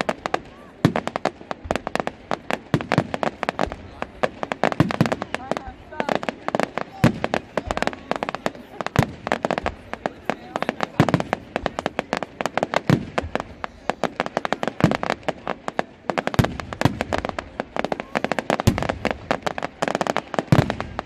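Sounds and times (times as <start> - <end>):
deep fireworks bangs: 0.0 - 21.0
fireworks cracking and popping: 0.0 - 21.0.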